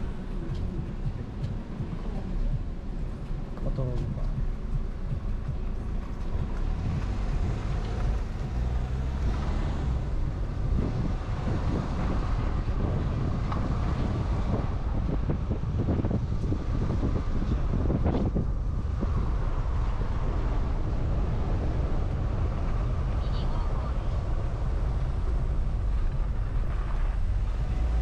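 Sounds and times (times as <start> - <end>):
car engine and road noise: 0.0 - 28.0
wind buffeting microphone: 0.0 - 28.0.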